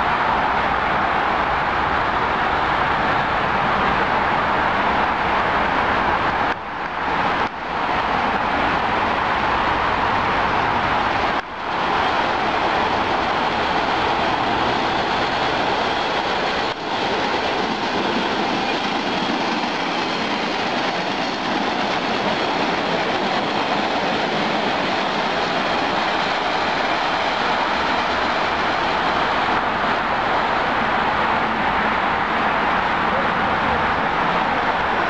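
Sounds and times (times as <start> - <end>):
subway train wheels rumbling: 0.0 - 35.0.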